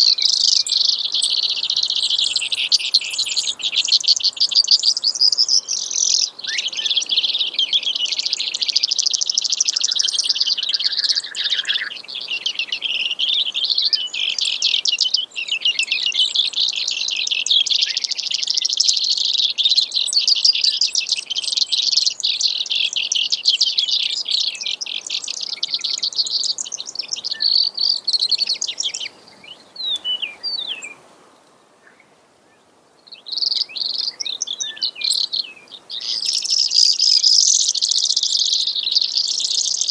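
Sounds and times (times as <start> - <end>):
sparrow trilling song: 0.0 - 31.0, 31.8 - 39.9.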